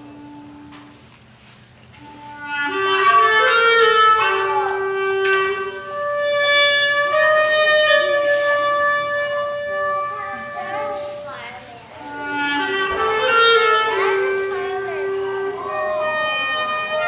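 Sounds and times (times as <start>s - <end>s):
solo clarinet melody: 0.0s - 1.0s, 2.0s - 11.4s, 12.0s - 17.0s.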